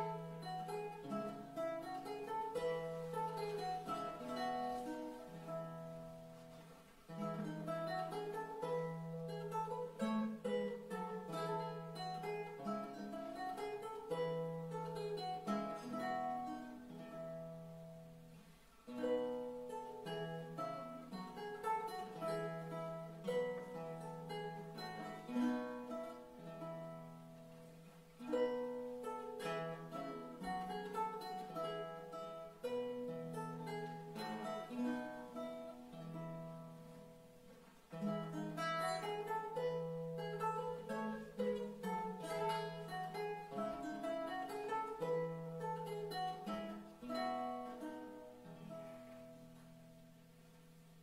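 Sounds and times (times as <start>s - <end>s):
lute playing: 0.0s - 51.0s.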